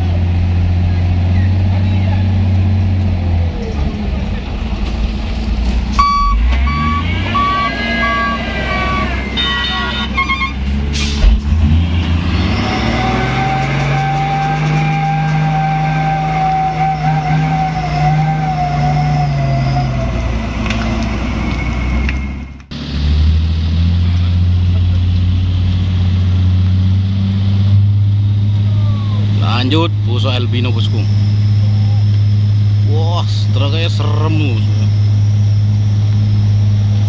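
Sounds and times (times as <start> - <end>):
truck engine running steadily: 0.0 - 18.7, 19.8 - 37.0
diesel truck engine pulling hard: 0.0 - 37.0.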